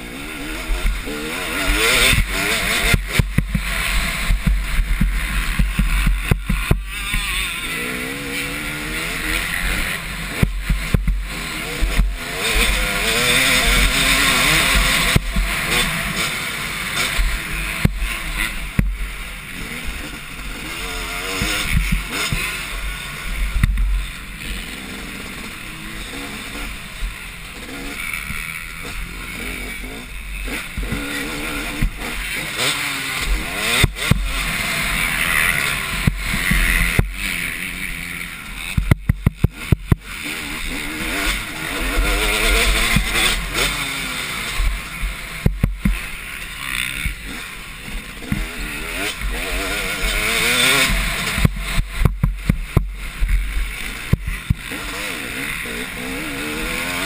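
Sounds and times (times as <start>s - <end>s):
motocross bikes revving: 0.0s - 57.0s.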